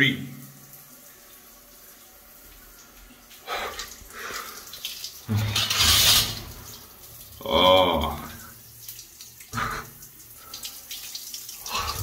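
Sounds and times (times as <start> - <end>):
shower water splashing: 0.0 - 12.0.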